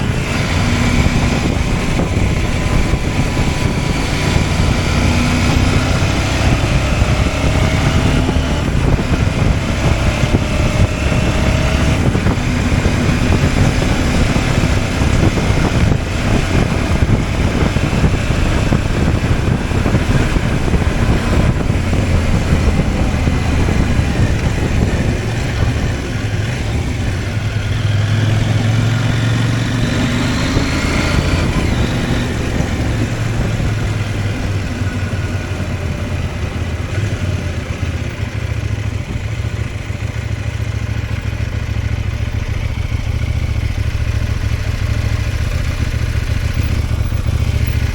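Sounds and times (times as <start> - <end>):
motorcycle engine running: 0.0 - 47.9
wind rush on microphone: 0.0 - 47.9.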